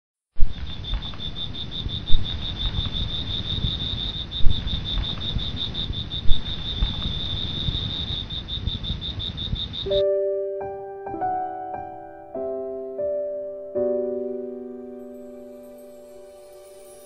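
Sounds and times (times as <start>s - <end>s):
crickets chirping: 0.4s - 17.0s.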